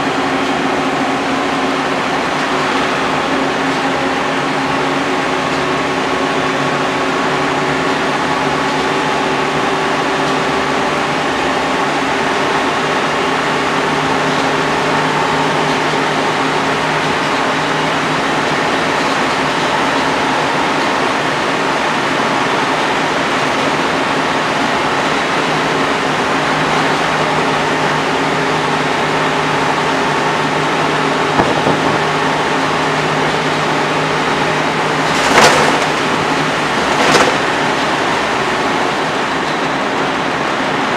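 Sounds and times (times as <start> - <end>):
bus diesel engine running: 0.0 - 40.9
road and tyre noise: 0.0 - 40.9.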